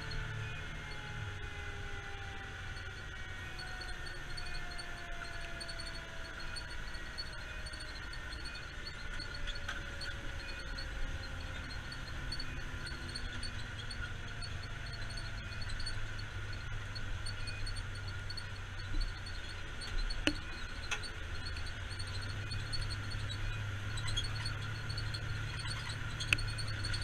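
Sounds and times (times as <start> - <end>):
truck engine drone and road noise: 0.0 - 27.0.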